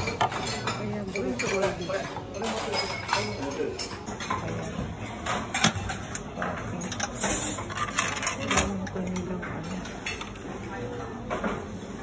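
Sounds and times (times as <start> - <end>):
dishes and utensils clinking: 0.0 - 12.0
murmur of chatter: 0.0 - 12.0.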